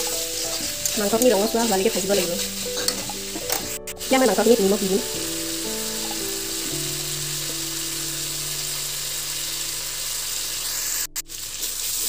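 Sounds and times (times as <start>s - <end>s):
background music with held notes: 0.0s - 12.0s
food sizzling in oil: 0.0s - 12.0s.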